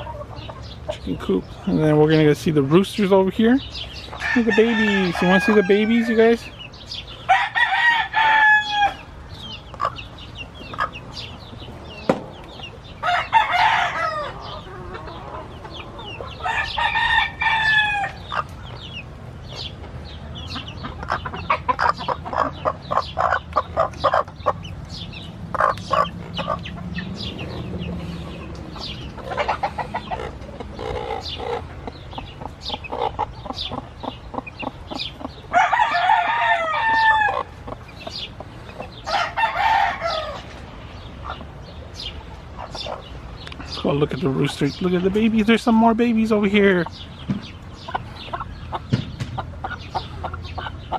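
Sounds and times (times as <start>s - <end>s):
hens clucking: 0.0s - 50.9s
roosters crowing: 0.0s - 50.9s.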